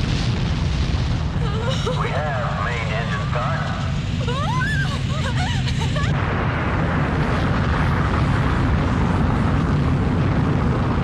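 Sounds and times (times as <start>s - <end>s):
rocket exhaust roar: 0.0s - 11.0s.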